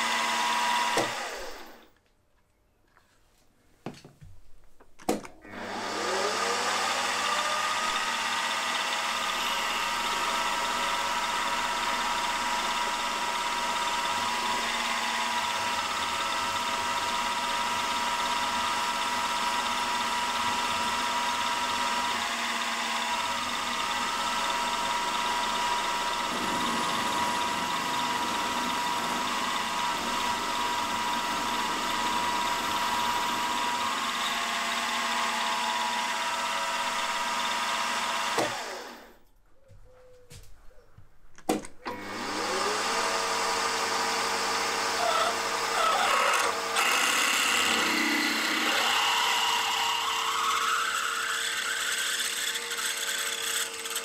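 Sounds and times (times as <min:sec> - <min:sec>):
drill boring into metal: 0:00.0 - 0:01.8, 0:05.4 - 0:39.0, 0:41.9 - 0:54.0
milling machine spindle whine: 0:05.5 - 0:38.9, 0:41.9 - 0:54.0.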